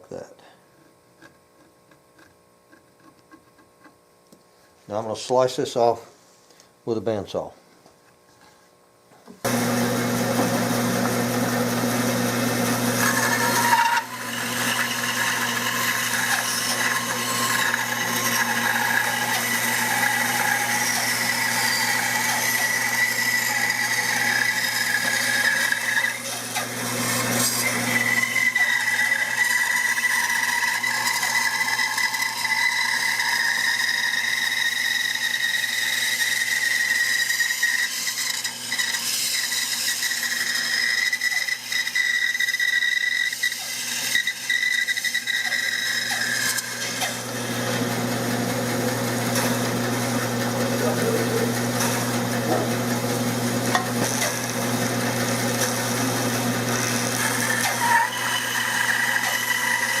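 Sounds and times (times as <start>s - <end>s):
bandsaw cutting wood: 9.4s - 60.0s.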